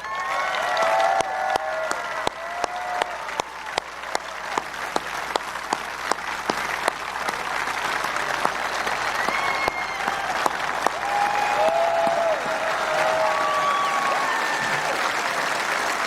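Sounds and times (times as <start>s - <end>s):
close evenly paced claps: 0.0s - 16.0s
crowd applauding and cheering: 0.0s - 16.0s.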